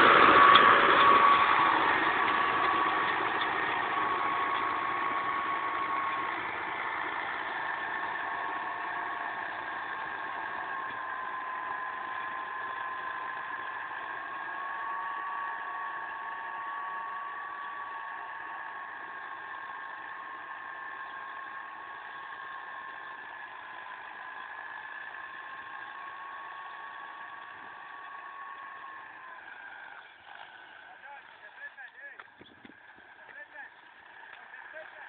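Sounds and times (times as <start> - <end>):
tractor engine under load: 0.0 - 35.0.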